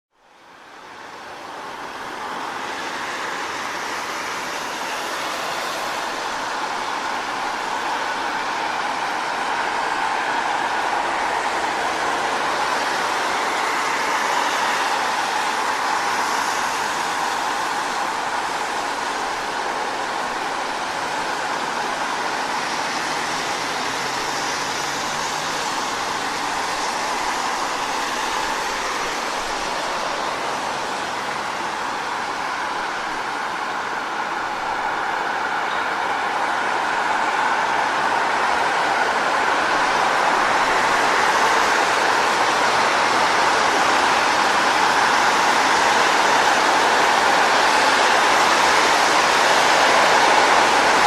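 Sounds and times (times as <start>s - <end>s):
car tyres hissing on wet road: 0.3s - 51.0s.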